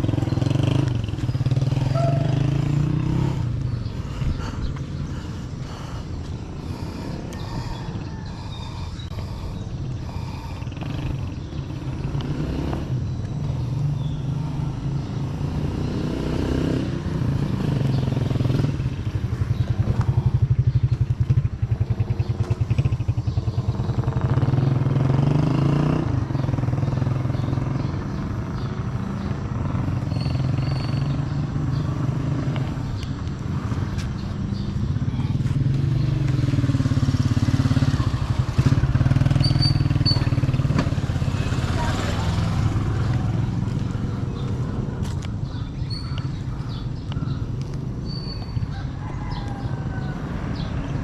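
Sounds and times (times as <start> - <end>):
motorcycle engine running: 0.0 - 48.8.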